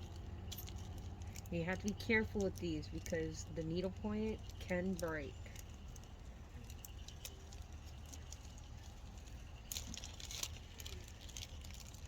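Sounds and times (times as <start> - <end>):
light clicks of small parts: 0.0 - 12.0
steady low hum: 0.0 - 12.0.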